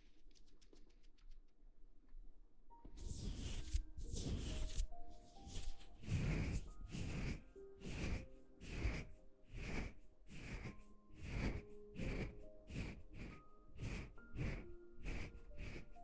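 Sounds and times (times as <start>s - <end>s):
soft background music: 2.2s - 16.0s
rhythmic breathy puffs: 3.0s - 16.0s.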